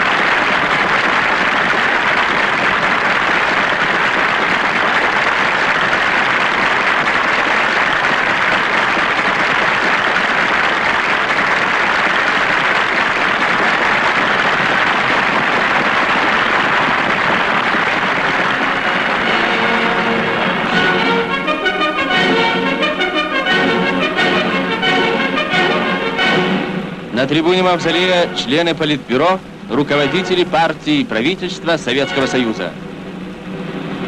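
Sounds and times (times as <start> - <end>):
crowd applauding: 0.0 - 26.5, 27.3 - 32.7.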